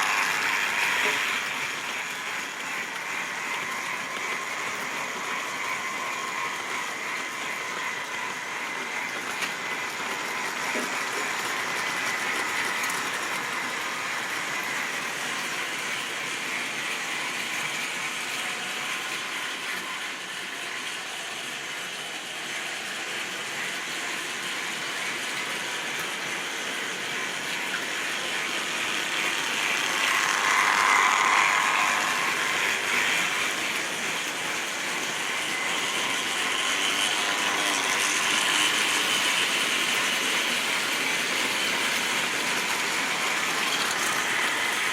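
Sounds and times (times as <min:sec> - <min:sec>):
model train motor whirring: 0:00.0 - 0:44.9
wheels rattling on rails: 0:00.0 - 0:44.9.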